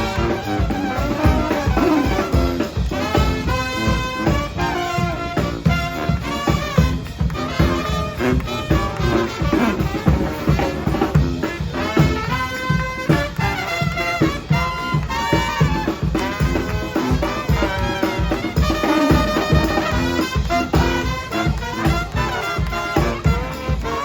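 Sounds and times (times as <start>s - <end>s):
brass horns playing: 0.0s - 24.0s
steady drumbeat: 0.0s - 24.0s.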